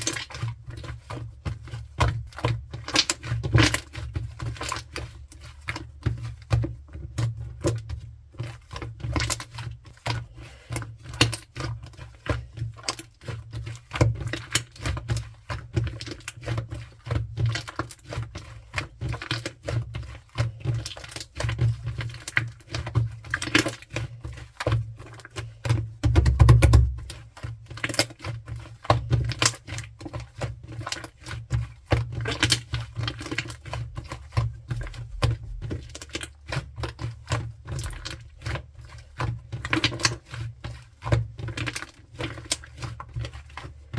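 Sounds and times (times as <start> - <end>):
heavy slime squish: 0.0 - 43.9.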